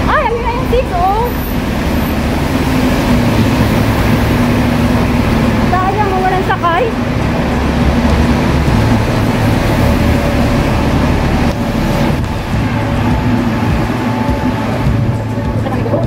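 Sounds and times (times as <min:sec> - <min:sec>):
buses engine rumble: 0:00.0 - 0:16.0.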